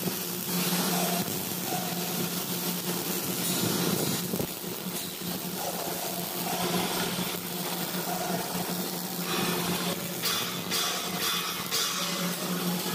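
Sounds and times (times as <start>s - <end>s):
arc welding crackling hiss: 0.0s - 12.9s.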